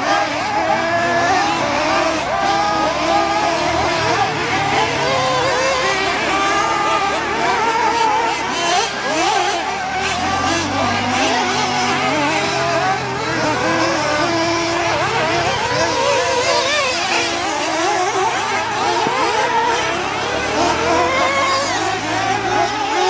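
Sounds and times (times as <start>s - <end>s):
small model car engines revving: 0.0s - 23.0s.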